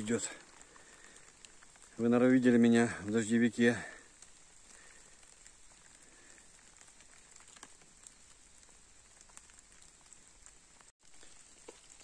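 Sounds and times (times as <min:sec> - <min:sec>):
rain pattering in woodland: 0:00.0 - 0:12.0.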